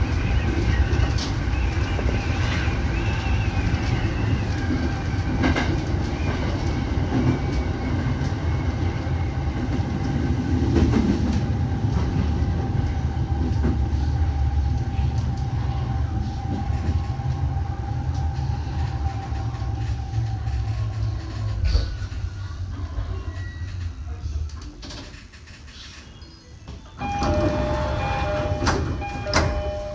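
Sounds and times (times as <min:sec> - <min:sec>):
train rumbling on rails: 0:00.0 - 0:29.9.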